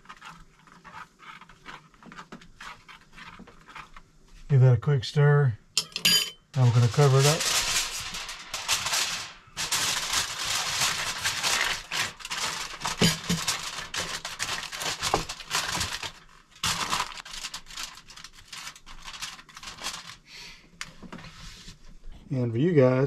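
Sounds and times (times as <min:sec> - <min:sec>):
aluminium foil crinkling: 0:00.0 - 0:04.1, 0:06.5 - 0:21.1.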